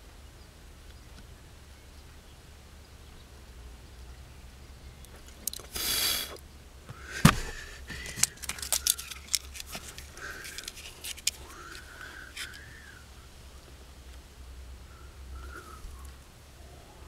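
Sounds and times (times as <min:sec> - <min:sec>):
bird chirping: 0:00.0 - 0:13.8, 0:14.8 - 0:17.0.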